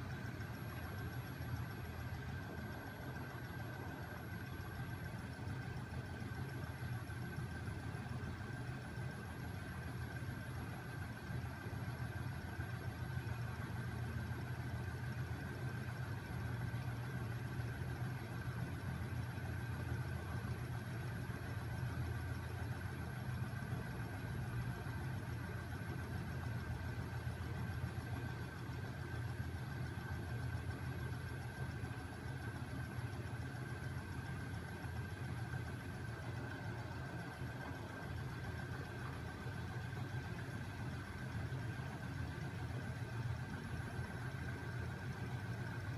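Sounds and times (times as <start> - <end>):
machine humming and rattling: 0.0 - 45.9.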